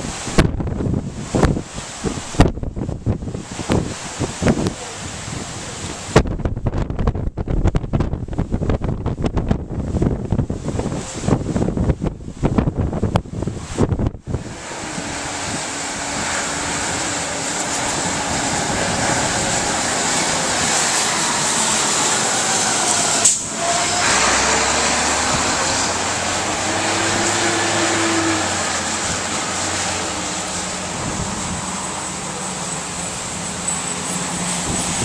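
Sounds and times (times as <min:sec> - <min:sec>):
wind and rain rushing: 0:00.0 - 0:35.0
wind buffeting microphone: 0:00.0 - 0:35.0.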